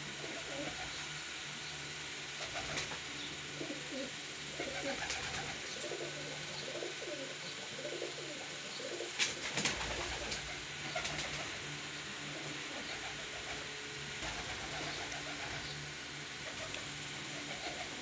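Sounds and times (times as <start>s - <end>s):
pigeons cooing: 0.0s - 1.5s, 2.3s - 18.0s.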